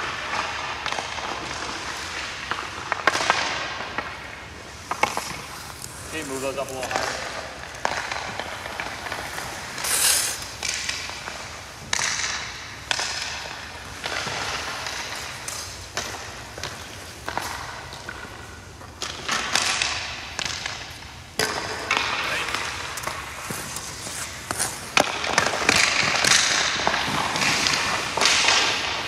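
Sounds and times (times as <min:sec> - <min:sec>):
skates scraping on ice: 0:00.0 - 0:29.0.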